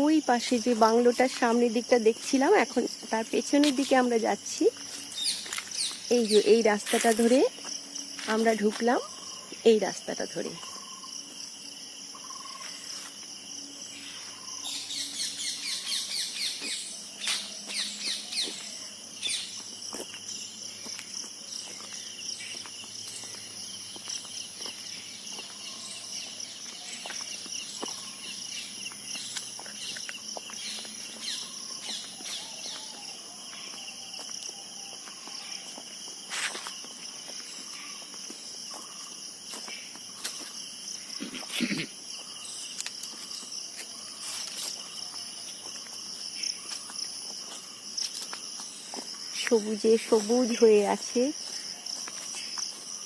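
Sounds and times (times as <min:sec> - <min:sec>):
rapid insect chirping: 0:00.0 - 0:53.0.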